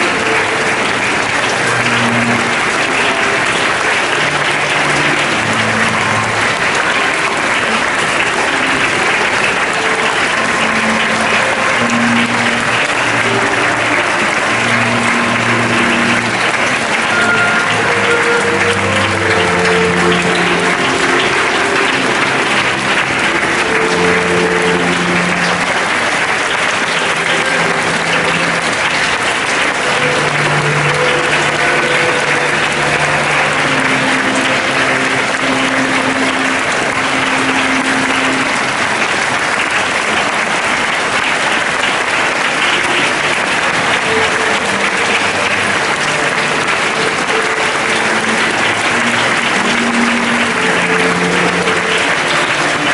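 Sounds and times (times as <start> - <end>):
crowd applauding: 0.0 - 52.9
slow music with held notes: 0.0 - 52.9.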